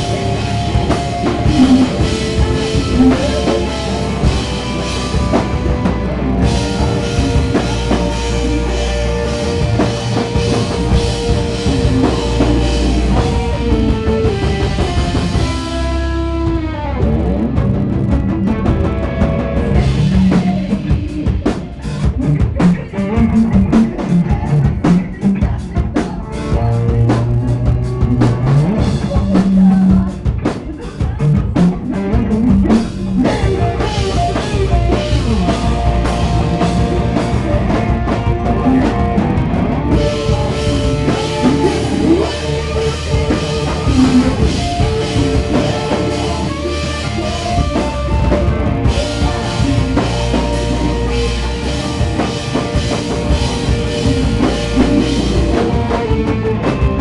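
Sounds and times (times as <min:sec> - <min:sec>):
drum kit hits: 0:00.0 - 0:57.0
live rock band playing: 0:00.0 - 0:57.0.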